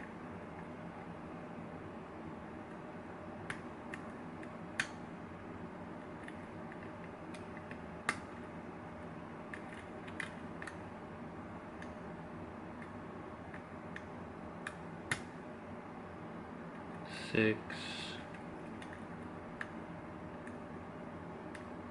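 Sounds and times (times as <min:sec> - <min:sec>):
steady low hiss: 0:00.0 - 0:21.9.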